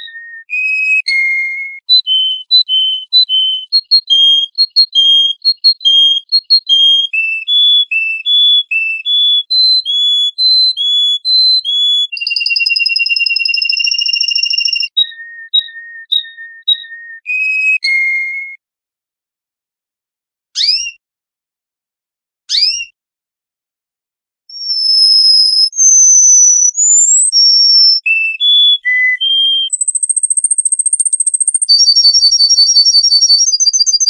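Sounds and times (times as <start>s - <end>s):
songbird singing: 0.0s - 18.1s, 24.5s - 34.0s.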